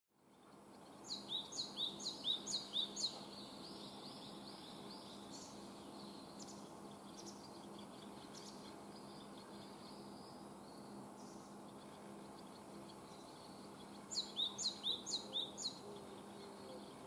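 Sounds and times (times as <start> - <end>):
background hiss: 0.2 - 17.0
faint low hum: 0.2 - 17.0.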